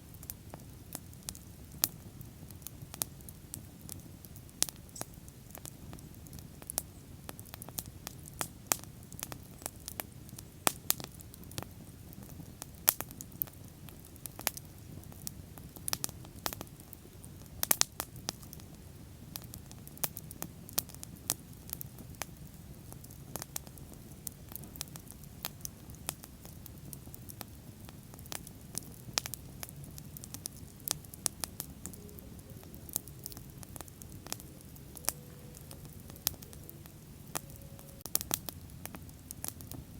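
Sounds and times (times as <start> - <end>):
bonfire crackling and popping: 0.0 - 39.9
low rumble of flame: 0.0 - 39.9.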